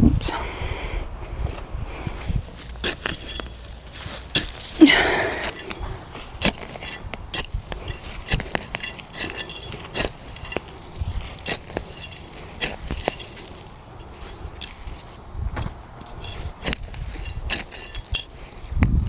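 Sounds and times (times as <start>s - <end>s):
metal trowel digging soil: 2.5s - 15.4s, 16.0s - 19.0s
trowel clinks and scrapes: 2.6s - 15.2s, 16.0s - 18.9s.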